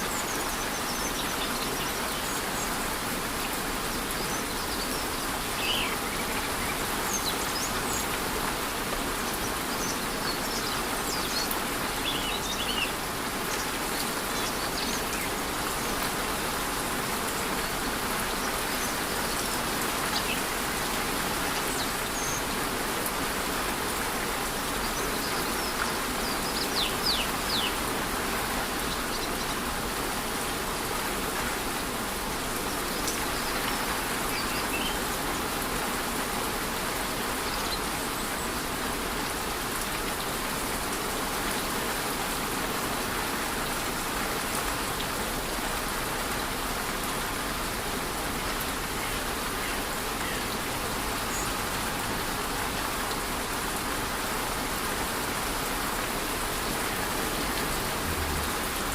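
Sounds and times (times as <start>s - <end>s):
light rain falling: 0.0s - 58.9s
waterfall rushing: 0.0s - 58.9s.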